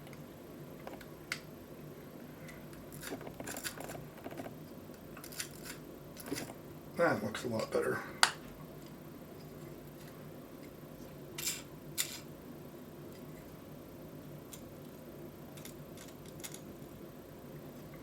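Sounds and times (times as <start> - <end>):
low steady room hum: 0.0 - 18.0.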